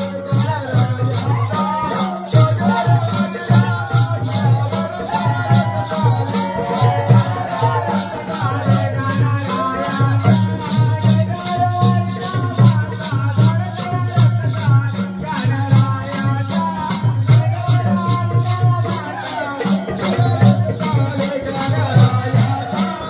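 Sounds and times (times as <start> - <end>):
rattling percussion: 0.0 - 23.0.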